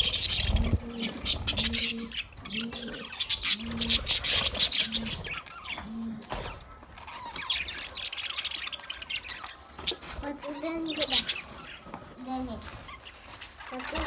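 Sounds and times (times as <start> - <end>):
parrots chattering and squawking: 0.0 - 14.0.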